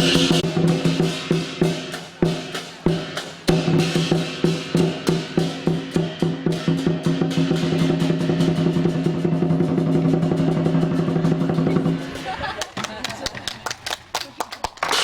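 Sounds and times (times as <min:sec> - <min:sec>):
drum beaten in fast rhythm: 0:00.0 - 0:15.0.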